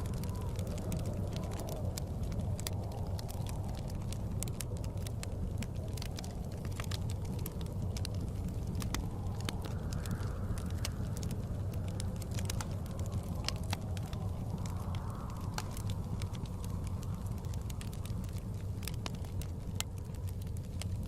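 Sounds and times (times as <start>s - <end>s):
low rumble of wind: 0.0s - 21.0s
wood fire crackling and popping: 0.0s - 21.0s.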